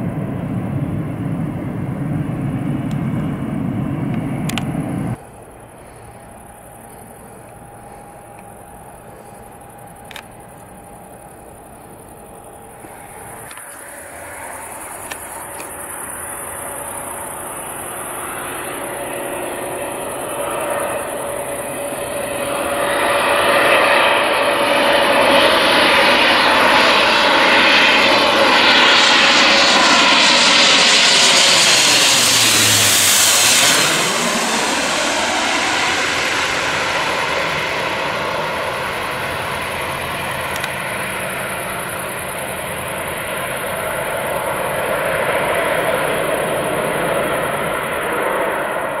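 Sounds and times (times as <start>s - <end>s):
airliner engine roar overhead: 0.0s - 49.0s.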